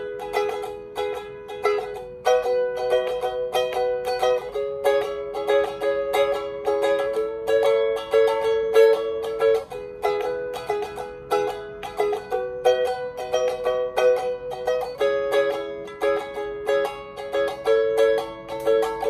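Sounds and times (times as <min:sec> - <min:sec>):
ukulele plucked chords and notes: 0:00.0 - 0:19.0.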